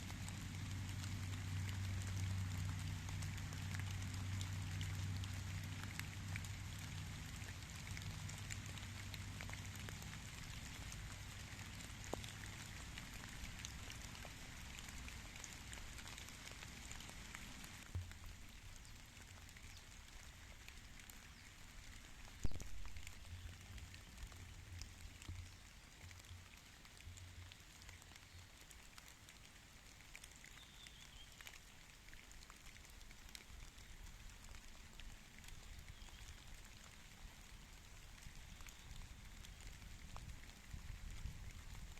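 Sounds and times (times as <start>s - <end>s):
light rain pattering: 0.0s - 41.9s.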